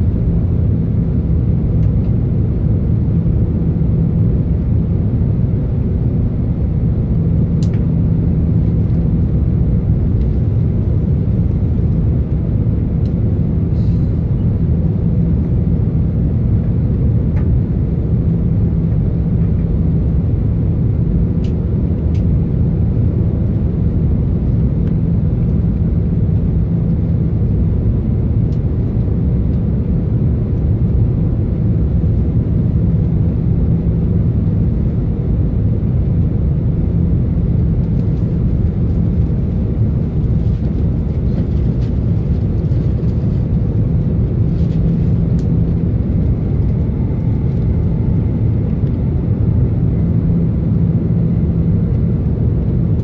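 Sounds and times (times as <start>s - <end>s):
jet engines droning: 0.0s - 53.0s.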